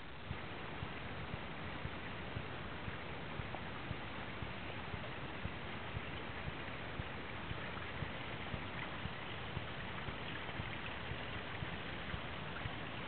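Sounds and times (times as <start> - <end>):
soft low thumps: 0.0 - 13.0
water splashing from waterfall: 0.4 - 13.0.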